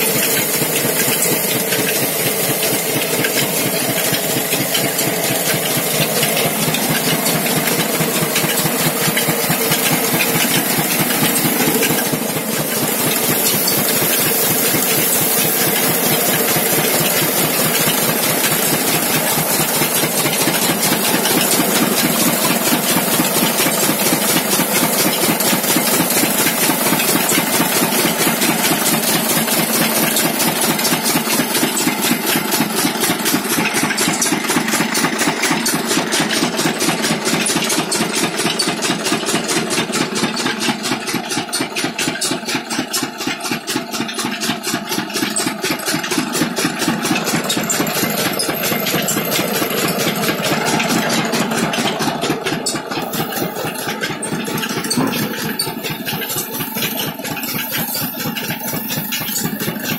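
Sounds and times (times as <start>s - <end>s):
single-cylinder engine running: 0.0s - 59.9s.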